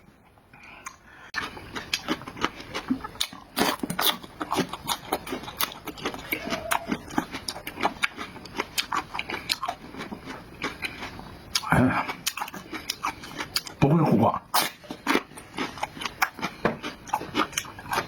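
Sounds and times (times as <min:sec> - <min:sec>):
wet chewing and lip smacking: 0:00.6 - 0:13.8, 0:14.5 - 0:18.0.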